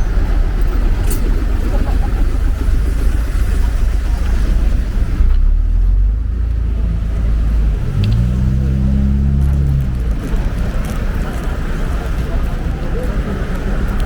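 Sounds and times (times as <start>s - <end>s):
steady engine hum: 0.0s - 14.0s
vehicles passing with low rumble: 0.0s - 14.0s.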